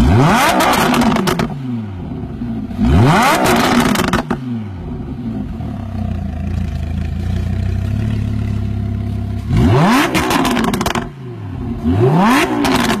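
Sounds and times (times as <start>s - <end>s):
sports car engine idling and revving: 0.0s - 13.0s.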